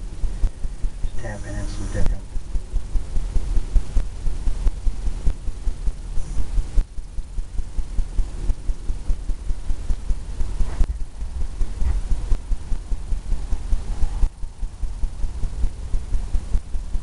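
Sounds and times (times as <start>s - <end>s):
low uneven pulsing rumble: 0.0s - 17.0s.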